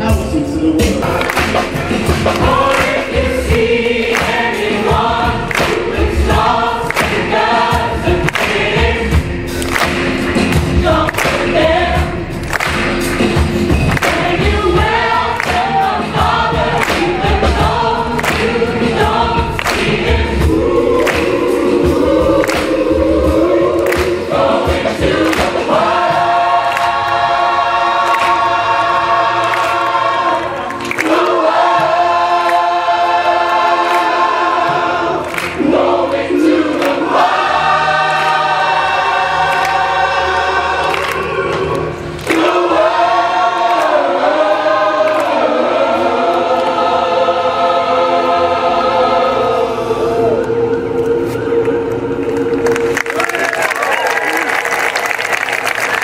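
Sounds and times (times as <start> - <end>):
gospel choir singing: 0.0 - 56.0
rhythmic clapping: 0.8 - 48.4, 50.3 - 56.0.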